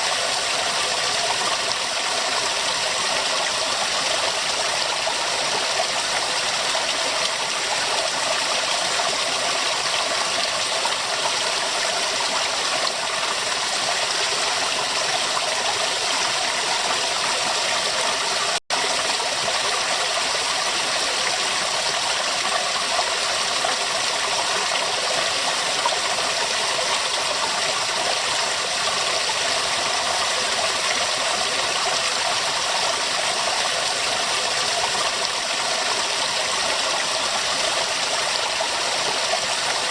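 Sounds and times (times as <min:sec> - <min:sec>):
river water rushing and bubbling: 0:00.0 - 0:39.9.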